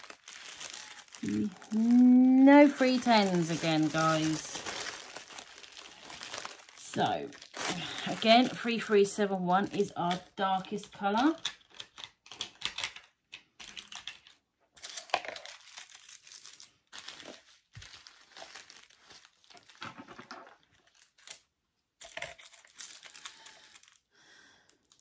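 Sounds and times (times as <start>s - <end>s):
plastic bag crinkling: 0.0s - 13.0s, 13.6s - 25.0s.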